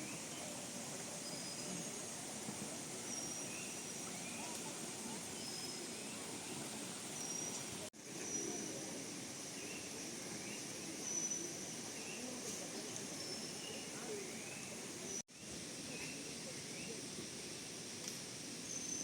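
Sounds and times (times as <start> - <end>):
murmur of distant voices: 0.0 - 18.3.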